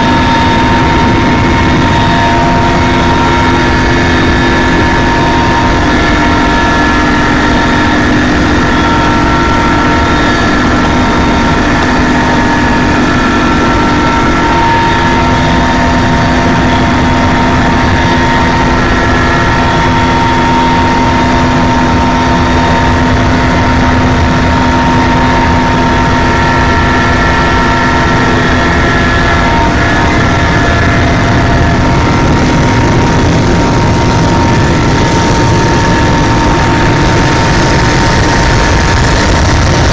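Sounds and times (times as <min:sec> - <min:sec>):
constant whining tones: 0:00.0 - 0:39.9
helicopter engine and rotor: 0:00.0 - 0:39.9.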